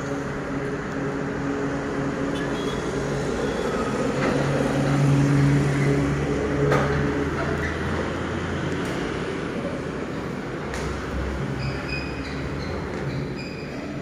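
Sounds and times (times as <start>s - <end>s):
road traffic drone: 0.0s - 14.0s.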